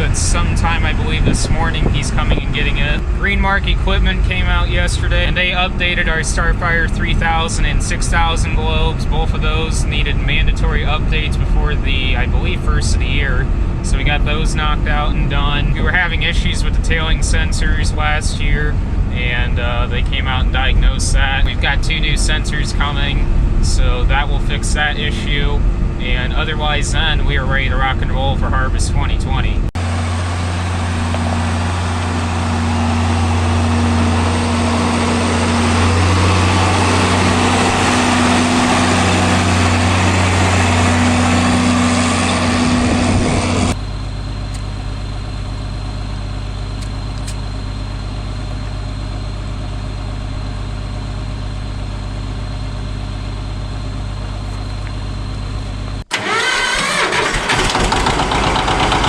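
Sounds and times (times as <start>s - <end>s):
machine engine running: 0.0s - 59.0s.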